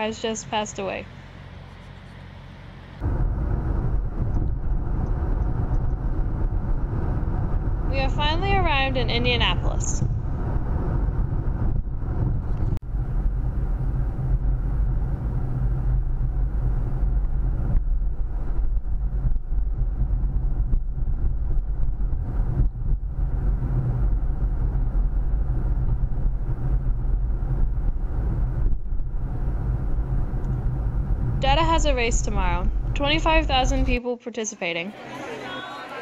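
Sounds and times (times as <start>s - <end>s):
road and engine rumble in car: 0.0s - 34.0s.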